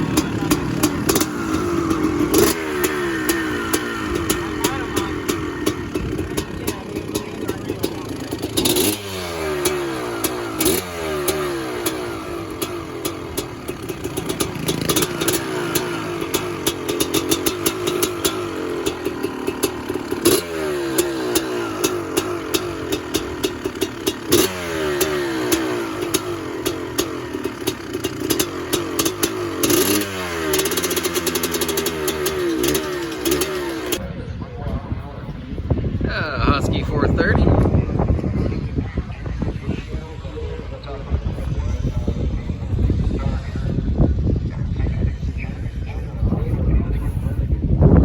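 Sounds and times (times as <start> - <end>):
dirt bike engine revving and idling: 0.0 - 48.0.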